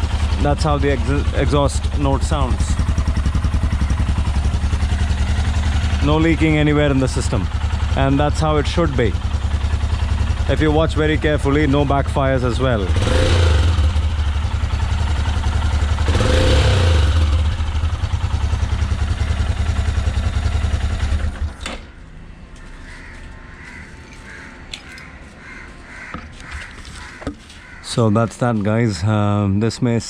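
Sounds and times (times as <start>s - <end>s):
motorcycle engine running: 0.0s - 24.5s.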